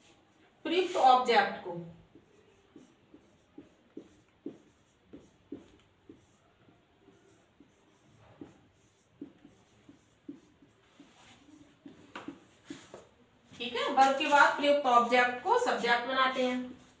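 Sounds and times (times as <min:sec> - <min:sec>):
marker pen writing on whiteboard: 0:00.0 - 0:17.0.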